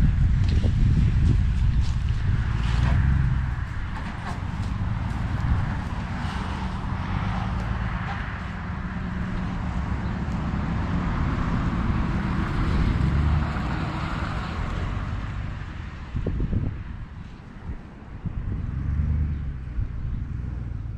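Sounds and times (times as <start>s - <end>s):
truck engine running low speed: 0.0s - 20.9s.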